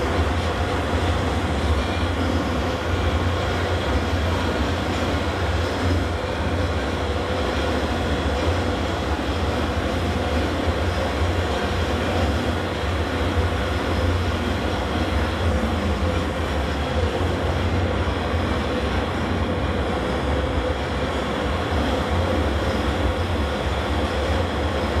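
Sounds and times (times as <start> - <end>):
liquefier motor humming and whirring: 0.0 - 25.0.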